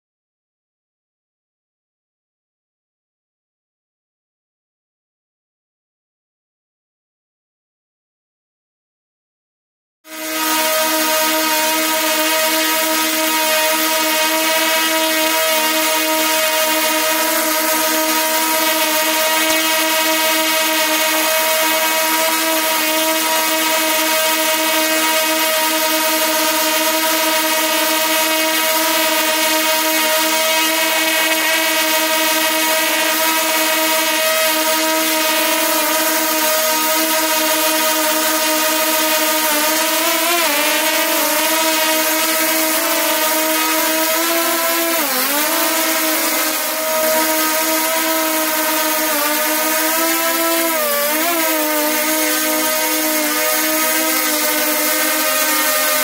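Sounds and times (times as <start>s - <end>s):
drone propellers buzzing whine: 10.1s - 56.0s.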